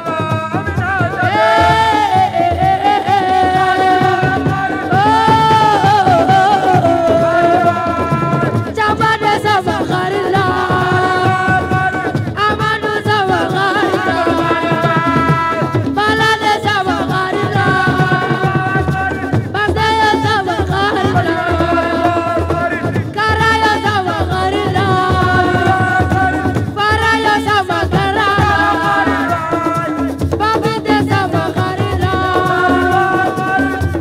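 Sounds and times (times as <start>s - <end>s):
person singing a melody: 0.0s - 34.0s
steady drum beat: 0.0s - 34.0s.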